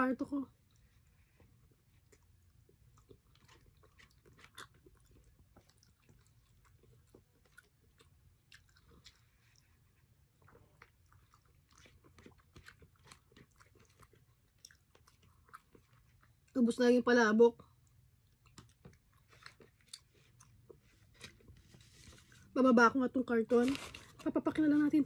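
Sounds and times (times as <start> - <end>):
chewing and mouth sounds: 0.6 - 16.7, 17.6 - 22.5.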